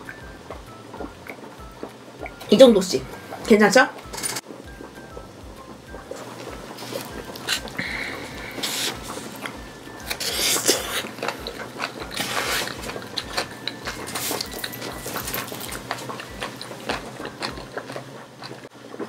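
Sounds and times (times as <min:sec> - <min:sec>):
chewing with mouth smacks: 0:00.0 - 0:19.0.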